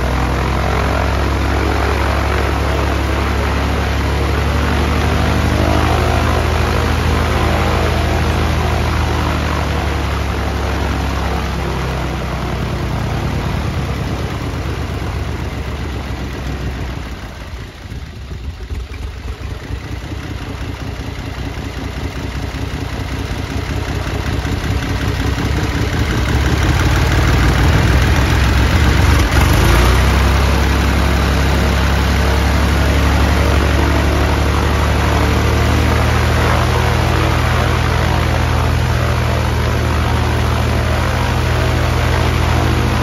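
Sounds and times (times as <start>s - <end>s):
aircraft engine droning: 0.0s - 43.0s.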